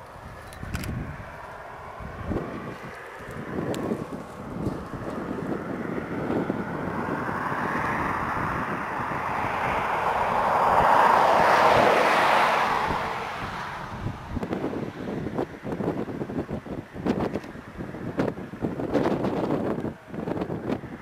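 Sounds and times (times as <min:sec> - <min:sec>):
vehicle tyre and road noise: 0:00.0 - 0:21.0
wind buffeting microphone: 0:00.0 - 0:21.0.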